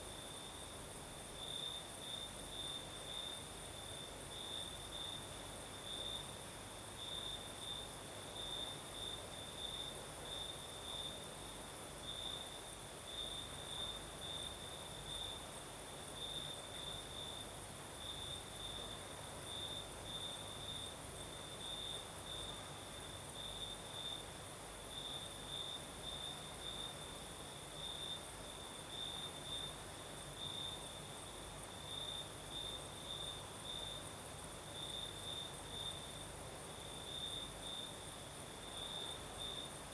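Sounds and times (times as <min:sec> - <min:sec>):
cricket chirping: 0:00.0 - 0:39.9
faint night breeze: 0:00.0 - 0:39.9
high insect hiss: 0:00.0 - 0:39.9.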